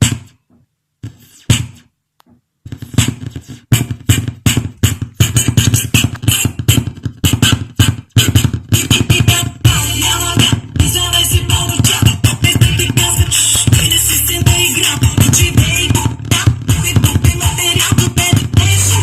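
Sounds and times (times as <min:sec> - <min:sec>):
beat-heavy music from a phone: 0:00.0 - 0:00.3, 0:02.7 - 0:19.0.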